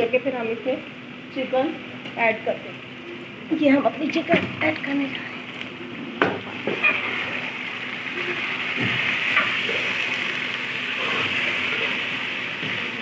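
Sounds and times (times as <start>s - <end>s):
chicken sizzling in hot oil: 2.3s - 13.0s.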